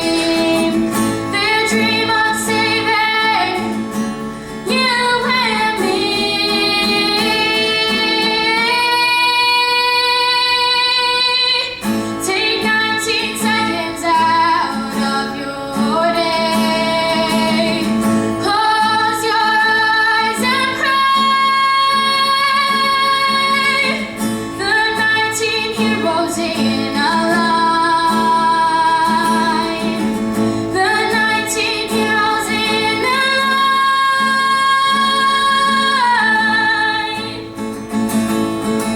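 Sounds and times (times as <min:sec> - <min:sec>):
young woman singing: 0:00.0 - 0:37.7
acoustic guitar: 0:00.0 - 0:38.9.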